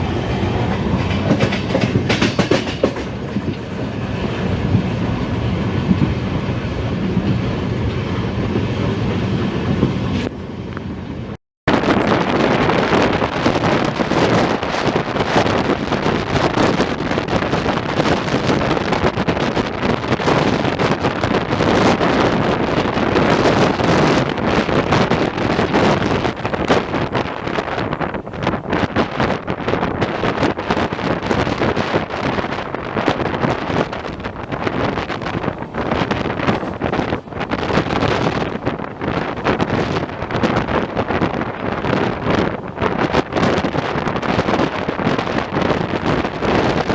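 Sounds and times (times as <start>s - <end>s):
train wheel and running noise: 0.0s - 11.4s, 12.2s - 46.9s
wind buffeting microphone: 0.0s - 46.9s.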